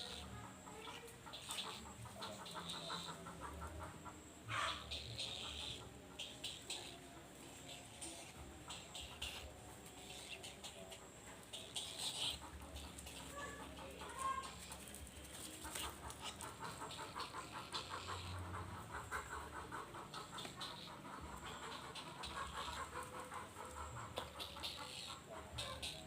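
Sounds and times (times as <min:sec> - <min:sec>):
herons calling in rhythmic chatter: 0:00.0 - 0:26.0.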